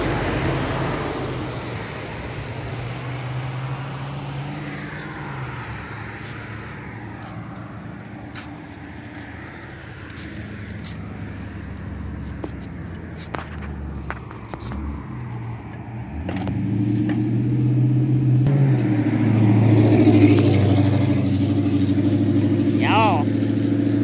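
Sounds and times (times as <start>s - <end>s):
car driving past: 0.0s - 24.0s.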